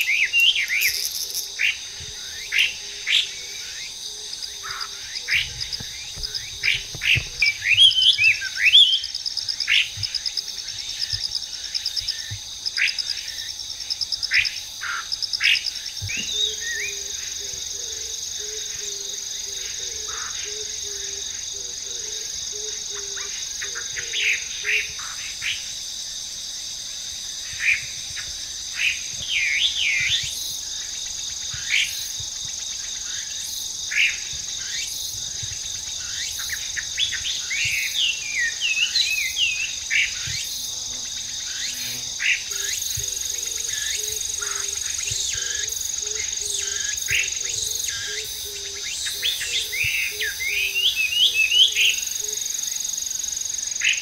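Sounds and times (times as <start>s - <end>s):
insects buzzing: 0.0s - 54.0s.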